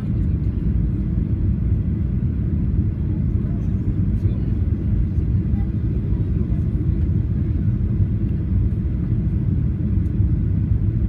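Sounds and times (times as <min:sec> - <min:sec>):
airliner low rumble: 0:00.0 - 0:11.0.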